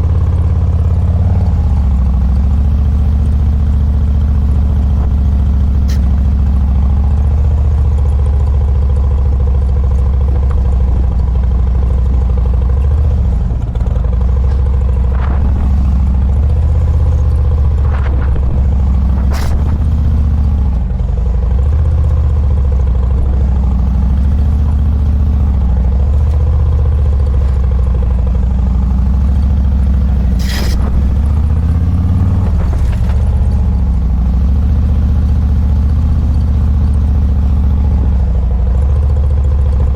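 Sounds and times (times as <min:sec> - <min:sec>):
motorcycle engine at low speed: 0:00.0 - 0:39.9.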